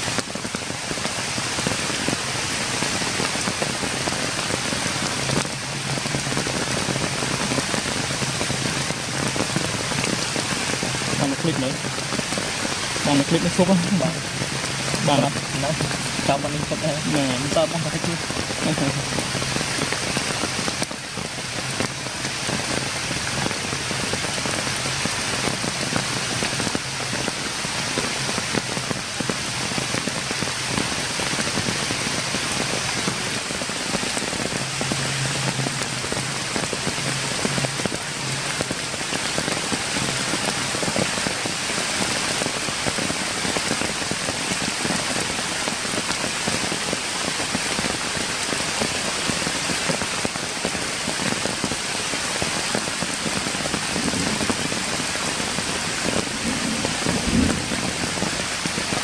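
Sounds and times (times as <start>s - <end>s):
rain falling on wet ground: 0.0s - 59.0s.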